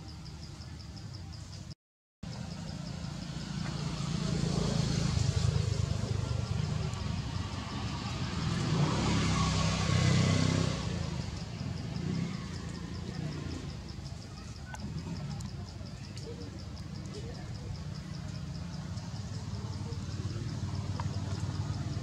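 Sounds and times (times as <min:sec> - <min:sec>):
faint insect chirps: 0:00.0 - 0:22.0
vehicle engine rumble: 0:00.0 - 0:22.0.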